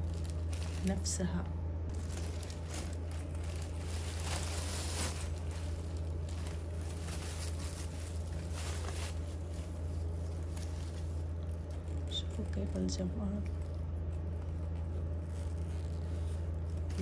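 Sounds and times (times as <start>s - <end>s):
low hum: 0.0s - 17.0s
plastic and tissue paper crinkling: 0.0s - 17.0s.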